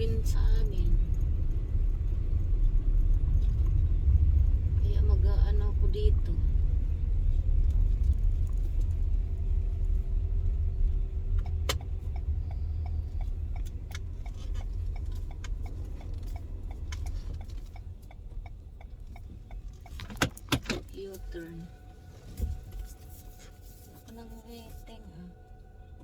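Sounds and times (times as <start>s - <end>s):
turn signal stalk click: 0.0s - 25.0s
engine and road rumble: 0.0s - 26.0s
turn signal ticking: 0.0s - 26.0s.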